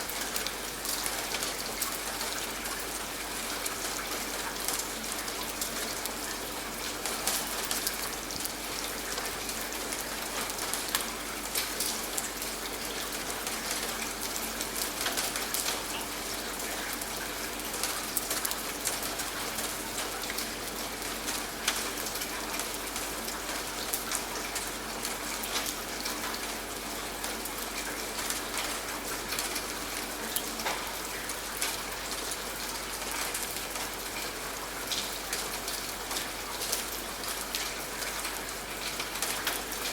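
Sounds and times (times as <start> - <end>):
rain falling: 0.0 - 39.9
raindrops striking a surface: 0.0 - 39.9.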